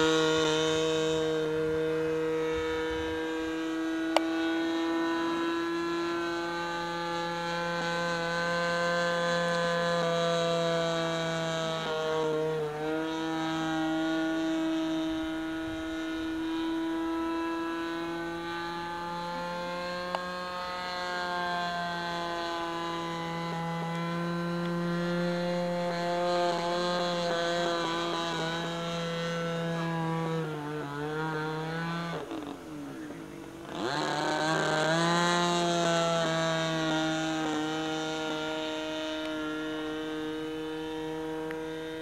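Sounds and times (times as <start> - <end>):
model plane engine buzzing: 0.0 - 42.0.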